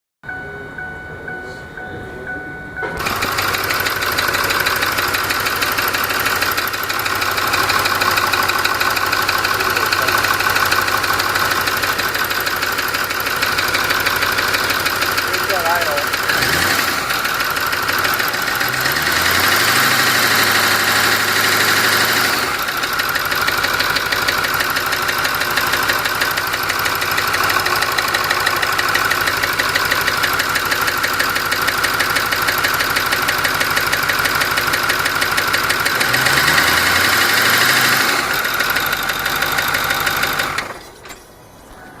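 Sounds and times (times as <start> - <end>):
engine running with knocking: 2.9 - 41.2
engine revving: 3.0 - 41.1.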